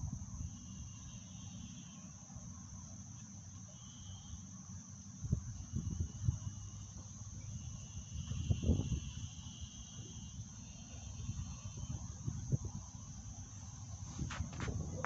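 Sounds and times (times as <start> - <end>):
insects trilling: 0.0 - 15.0
steady high hiss: 0.0 - 15.0.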